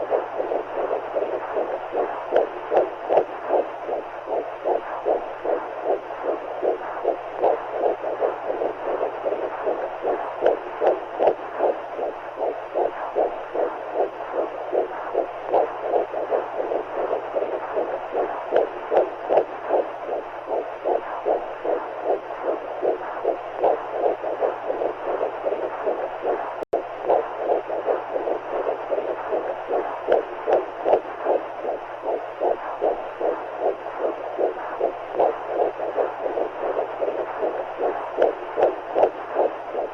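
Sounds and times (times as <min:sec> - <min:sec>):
heartbeat whooshing through fluid: 0:00.0 - 0:39.9
steady rushing noise: 0:00.0 - 0:39.9.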